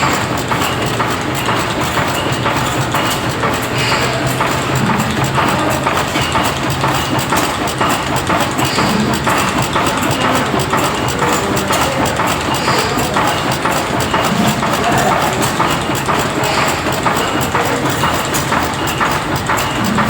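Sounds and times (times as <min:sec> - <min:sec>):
diesel engine knocking: 0:00.0 - 0:20.0.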